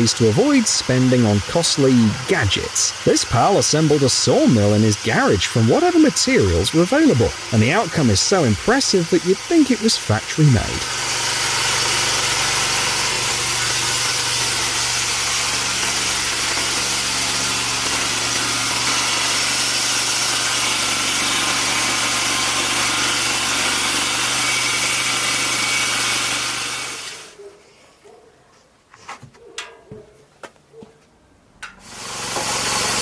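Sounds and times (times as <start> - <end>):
sawmill machine hum: 0.0 - 27.4, 31.8 - 33.0.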